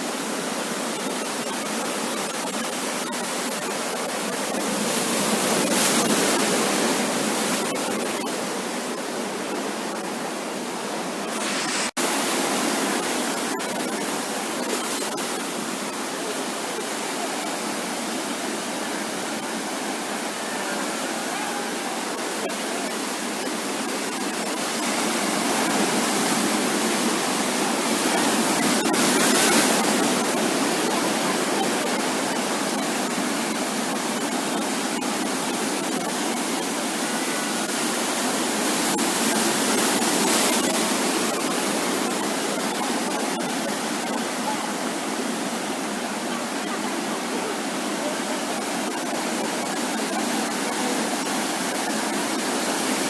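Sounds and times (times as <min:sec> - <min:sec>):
waves breaking on beach: 0:00.0 - 0:53.0.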